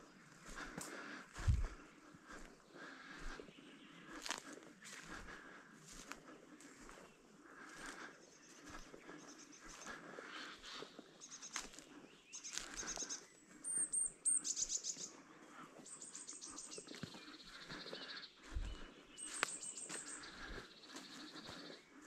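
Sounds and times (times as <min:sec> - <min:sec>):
songbirds trilling and chirping: 0:00.0 - 0:22.0.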